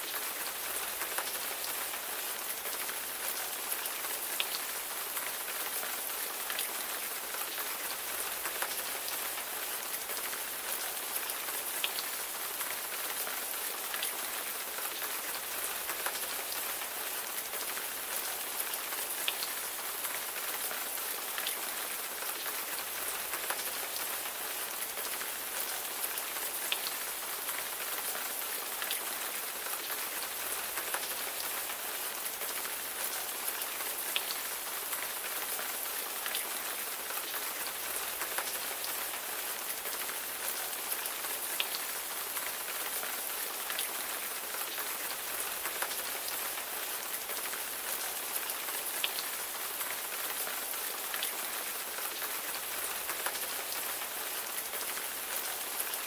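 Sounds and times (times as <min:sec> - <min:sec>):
raindrops ticking on a surface: 0:00.0 - 0:56.0.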